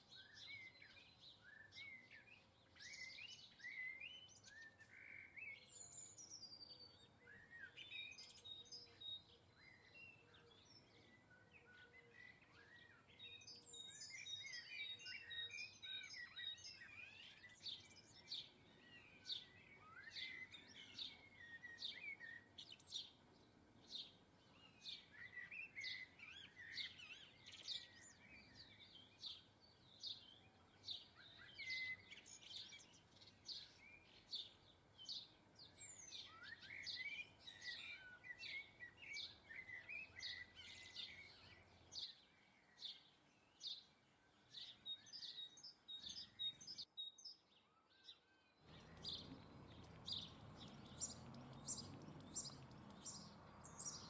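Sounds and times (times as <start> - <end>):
birds chirping: 0.1 - 54.0.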